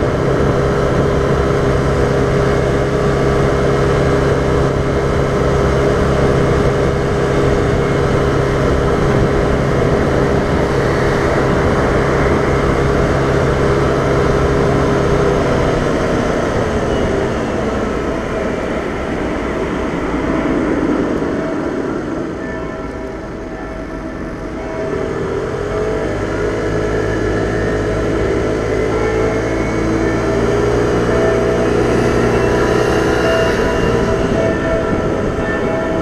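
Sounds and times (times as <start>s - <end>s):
wind and road rush: 0.0s - 36.0s.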